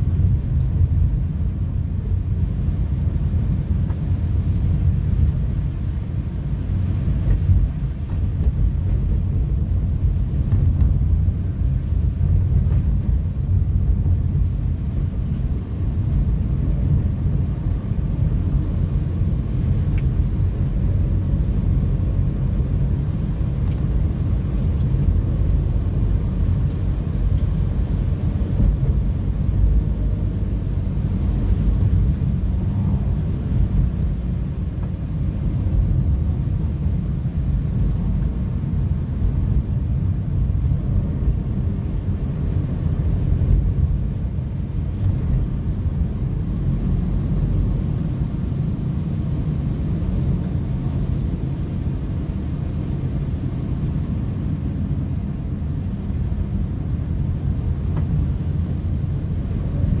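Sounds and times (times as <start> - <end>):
car engine and tyres on wet road: 0.0 - 60.0.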